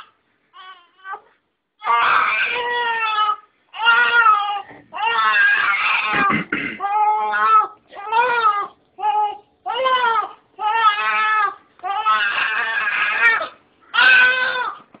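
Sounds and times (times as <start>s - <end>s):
newborn baby crying: 0.0s - 14.9s.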